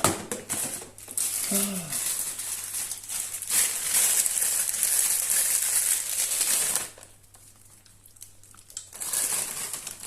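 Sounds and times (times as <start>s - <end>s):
plastic packet rustling: 0.3s - 10.0s.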